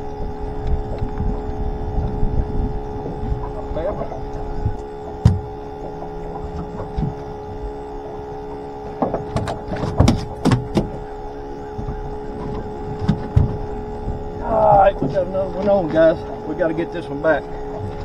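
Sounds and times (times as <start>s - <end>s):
pump whine: 0.0s - 18.0s
knocks and thumps on boat: 0.5s - 16.4s, 17.3s - 18.0s.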